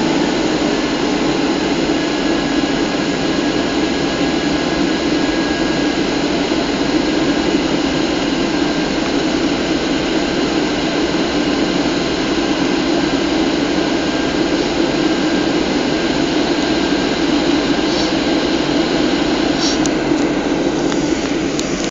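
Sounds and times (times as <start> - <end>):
jet engine roar in cabin: 0.0 - 21.9
rushing airflow: 0.0 - 21.9.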